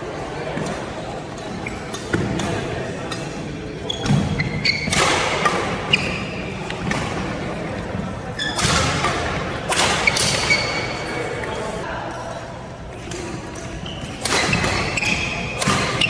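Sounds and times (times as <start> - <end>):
shoes squeaking on court floor: 0.4 - 16.0
racket hitting shuttlecock: 0.6 - 11.0, 13.0 - 16.0.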